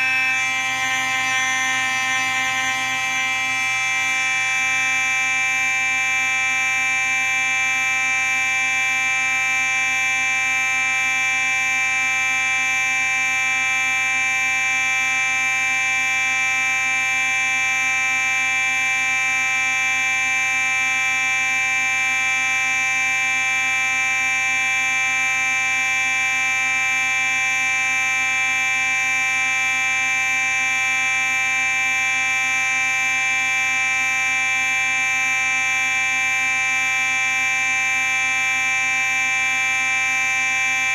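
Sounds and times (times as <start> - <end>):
fire alarm steady tone: 0.0 - 40.9.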